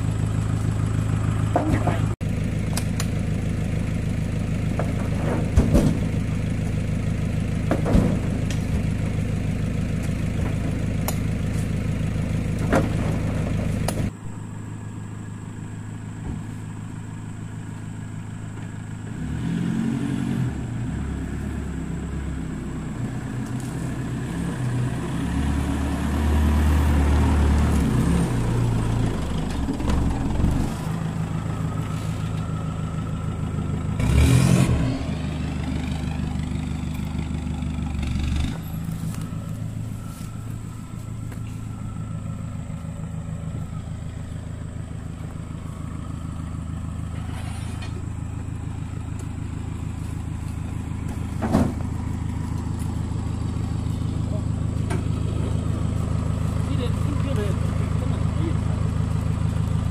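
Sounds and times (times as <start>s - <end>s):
pickup engine running: 0.0s - 59.9s.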